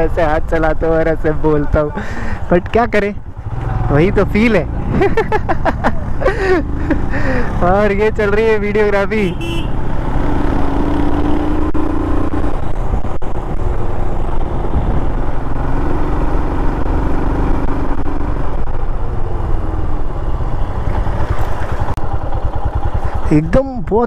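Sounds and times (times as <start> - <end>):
motorcycle engine cruising: 0.0 - 24.0.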